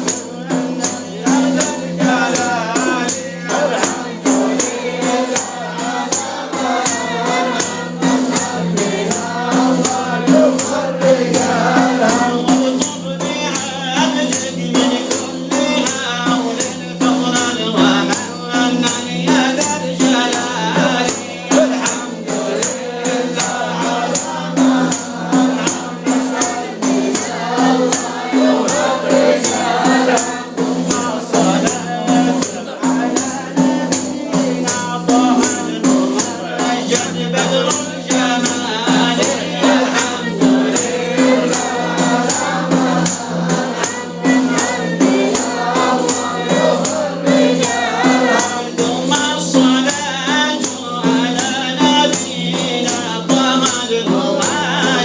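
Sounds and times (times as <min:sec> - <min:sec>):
frame drums with jingles: 0:00.0 - 0:55.0
voices singing devotional chant: 0:00.0 - 0:55.0.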